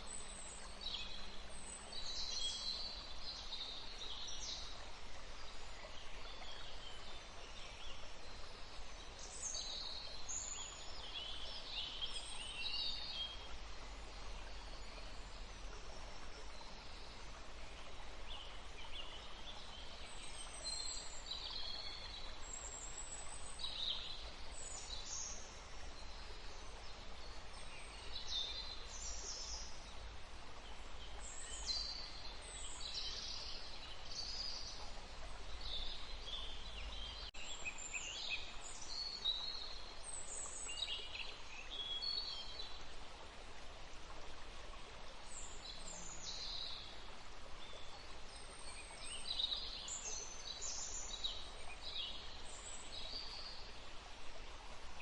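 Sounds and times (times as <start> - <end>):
forest stream rushing: 0.0 - 55.0
songbirds chirping: 0.0 - 55.0.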